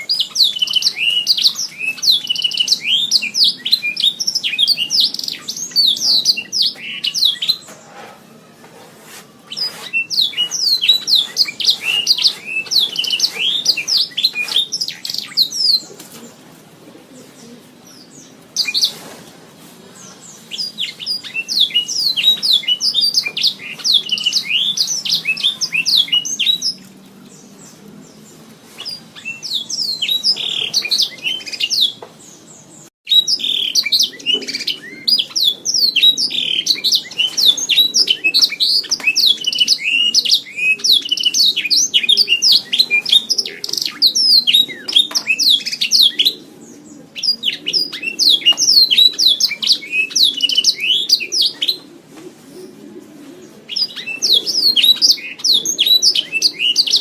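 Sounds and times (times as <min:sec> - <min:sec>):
canary singing: 0:00.0 - 0:08.7, 0:09.4 - 0:16.4, 0:17.1 - 0:19.1, 0:20.0 - 0:52.8, 0:53.4 - 0:57.0.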